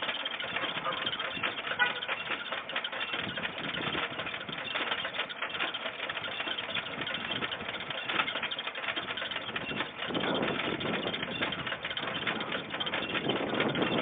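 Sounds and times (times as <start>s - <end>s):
gas pump whirring and rattling: 0.0s - 14.0s.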